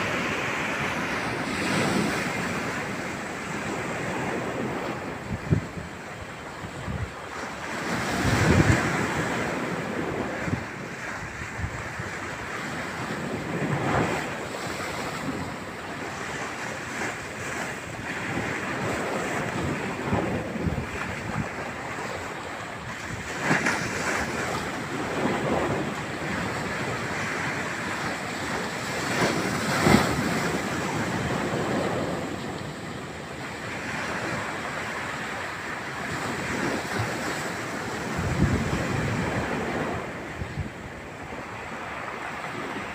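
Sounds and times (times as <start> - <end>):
high surf: 0.0 - 42.9
wind buffeting microphone: 0.0 - 42.9.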